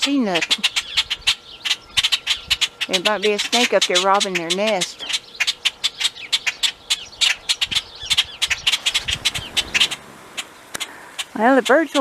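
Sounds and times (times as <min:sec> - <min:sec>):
bird chirps: 0:00.0 - 0:12.0
birds alarm calls: 0:00.0 - 0:12.0.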